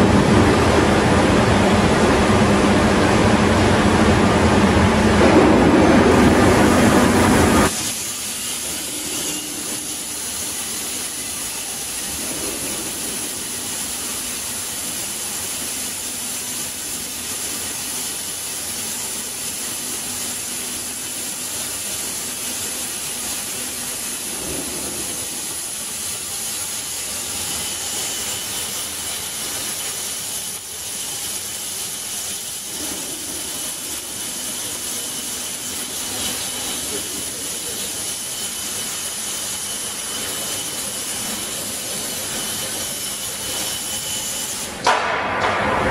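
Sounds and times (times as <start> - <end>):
high gas hiss: 0.0 - 45.2
plasma cutting torch: 4.2 - 45.9.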